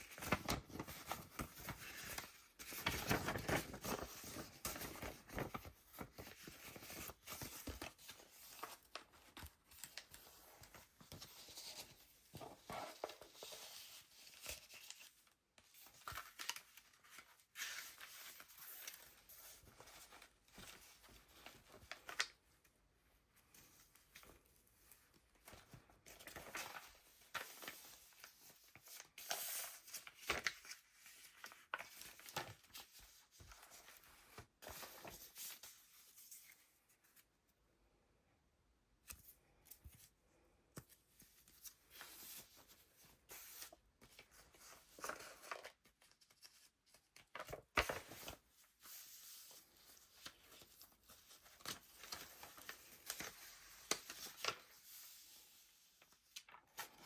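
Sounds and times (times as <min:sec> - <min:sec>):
paper pages turning: 0:00.0 - 0:22.4, 0:23.6 - 0:37.2, 0:40.8 - 0:57.0.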